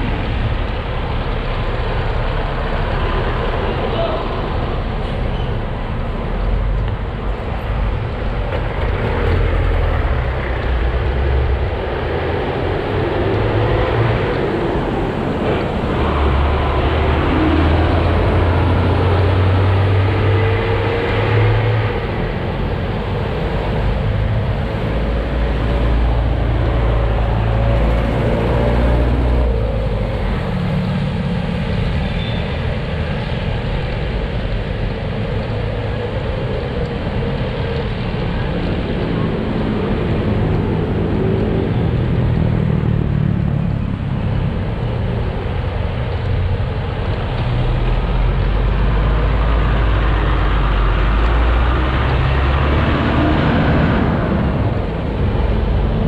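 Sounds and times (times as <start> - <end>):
vehicle engines passing: 0.0 - 56.0.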